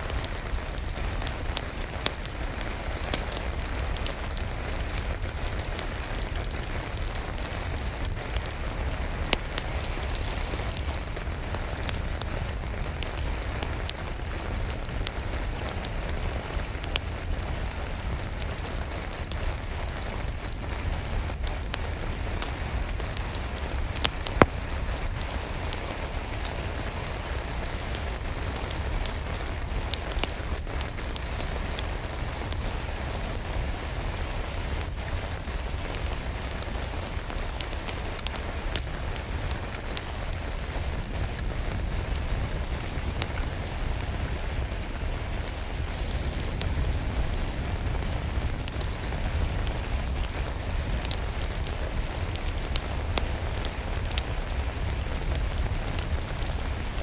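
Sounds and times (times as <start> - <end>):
rain falling: 0.0 - 57.0
wood fire crackling and popping: 0.0 - 57.0.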